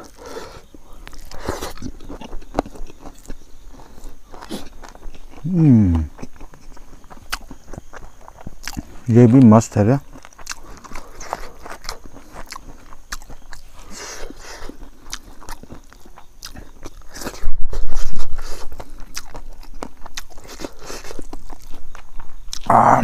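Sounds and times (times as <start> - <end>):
chewing with wet clicks: 0.0 - 22.8.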